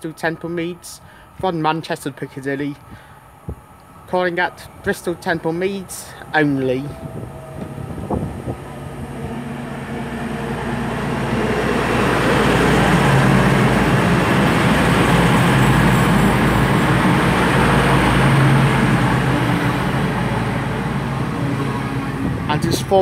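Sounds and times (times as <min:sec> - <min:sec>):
train engines and wheels rumbling: 0:00.0 - 0:23.0
low engine hum: 0:02.3 - 0:23.0.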